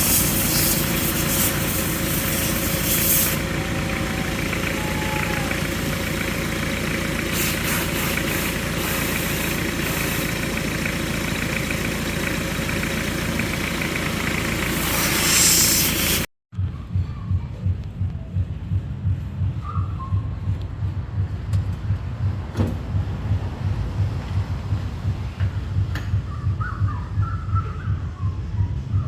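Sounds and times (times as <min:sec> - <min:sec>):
car engine idling: 0:00.0 - 0:16.7, 0:17.7 - 0:29.0.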